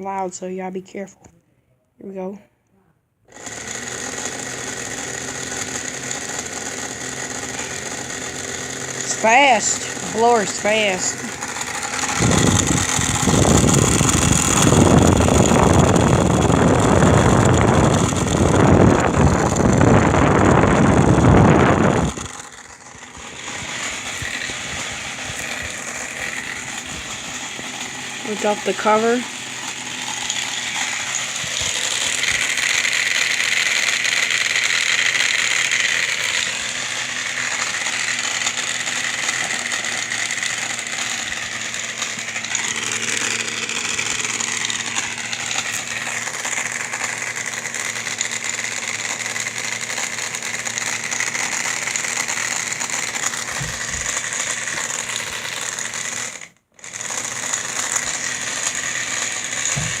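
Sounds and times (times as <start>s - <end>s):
air conditioner whirring: 3.3s - 60.0s.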